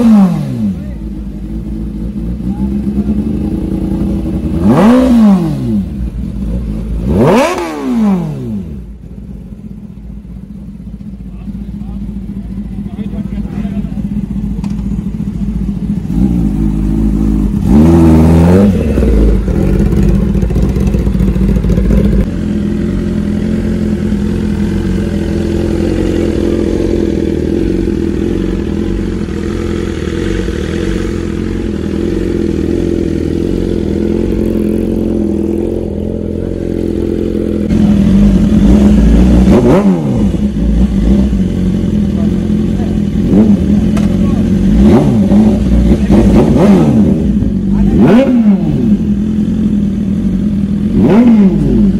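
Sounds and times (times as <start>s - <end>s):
motorcycle engine idling: 0.0s - 51.9s
motorcycle engine revving: 0.0s - 51.9s.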